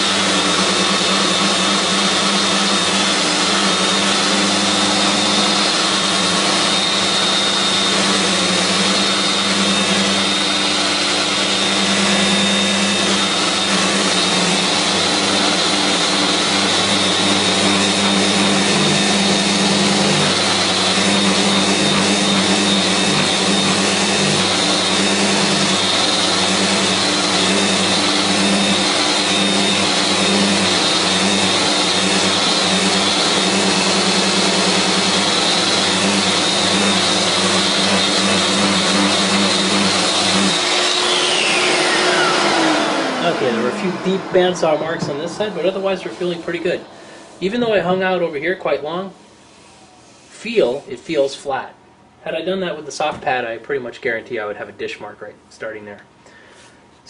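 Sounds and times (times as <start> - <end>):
dust extractor suction: 0.0 - 48.7, 49.3 - 51.4
sander grinding wood: 0.0 - 51.3.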